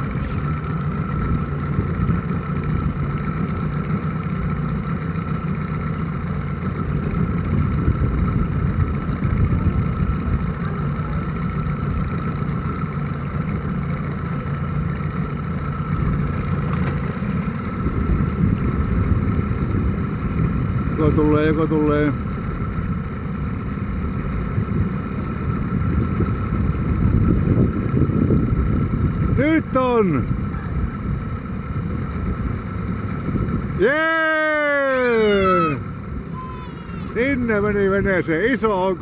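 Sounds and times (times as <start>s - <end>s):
boat motor droning with whine: 0.0s - 39.0s.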